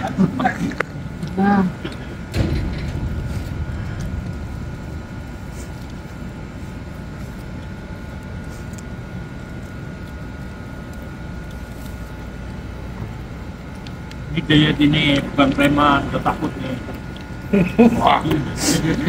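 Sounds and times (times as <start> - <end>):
low rumbling background noise: 0.0 - 19.0.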